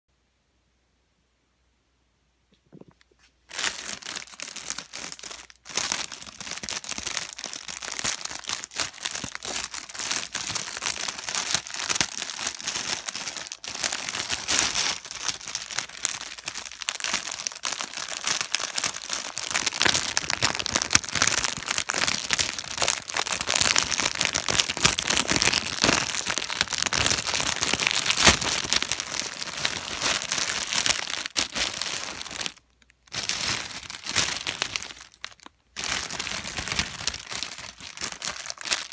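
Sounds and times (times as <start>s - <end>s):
material crinkling and crumpling: 2.5s - 38.9s.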